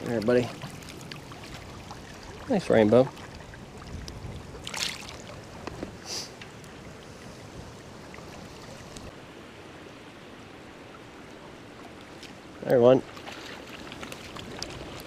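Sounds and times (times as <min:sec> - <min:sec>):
water splashes: 0:00.0 - 0:09.2, 0:10.7 - 0:15.0
river current rushing: 0:00.0 - 0:15.0.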